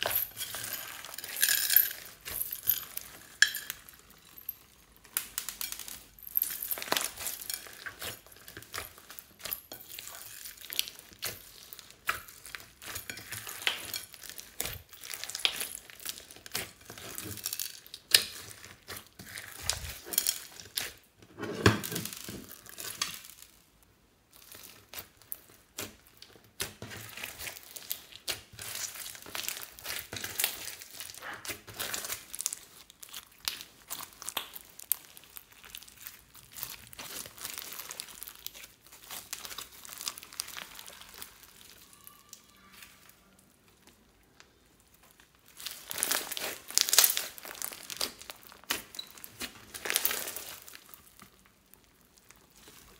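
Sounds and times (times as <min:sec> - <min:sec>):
hands squeezing crackling slime: 0:00.0 - 0:21.1, 0:22.1 - 0:43.1, 0:43.8 - 0:52.9.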